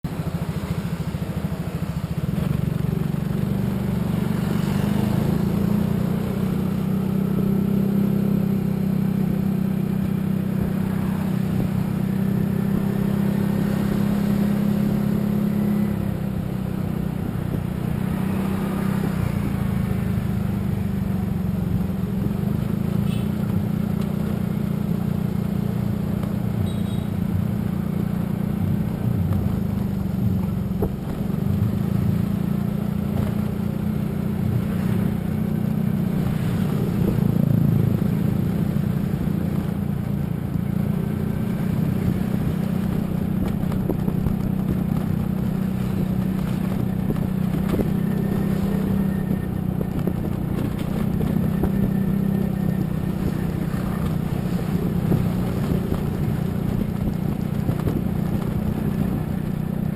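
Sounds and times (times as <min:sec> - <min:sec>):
passing traffic: 0:00.0 - 0:59.9
vehicle engine and road noise: 0:00.0 - 0:59.9.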